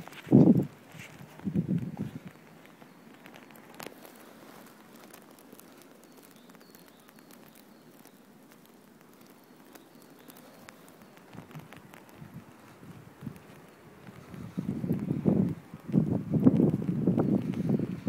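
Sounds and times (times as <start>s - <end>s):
small ticks: 0.0s - 18.0s.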